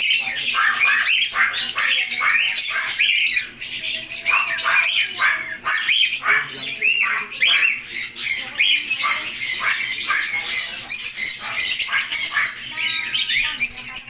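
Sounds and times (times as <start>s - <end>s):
lovebirds chattering squawks: 0.0s - 14.0s.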